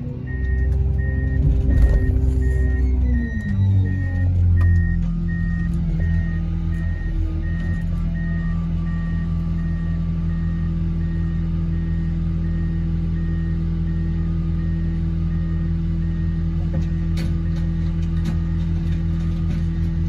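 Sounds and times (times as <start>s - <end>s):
large engine droning: 0.0s - 20.0s
reversing alarm beeping: 0.1s - 18.7s.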